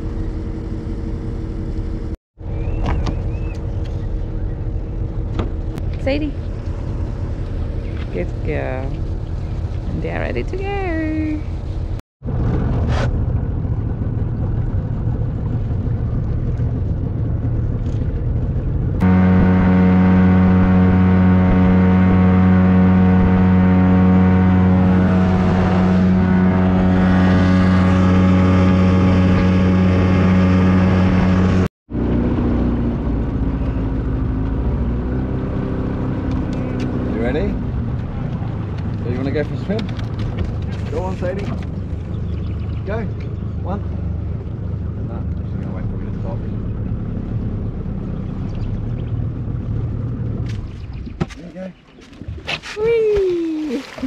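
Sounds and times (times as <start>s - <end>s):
outboard motor running: 0.0s - 52.5s, 53.2s - 54.0s
water noise: 0.0s - 54.0s
wind: 0.0s - 54.0s.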